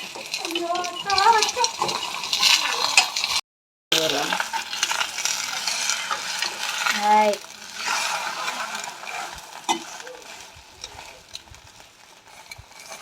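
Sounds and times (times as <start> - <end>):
utensil scraping pan: 0.0 - 3.4, 4.0 - 13.0
omelette sizzling: 0.0 - 13.0.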